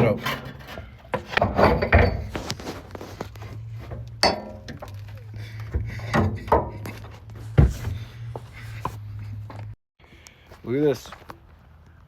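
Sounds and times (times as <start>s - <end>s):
metal clanks and thumps: 0.0s - 9.7s.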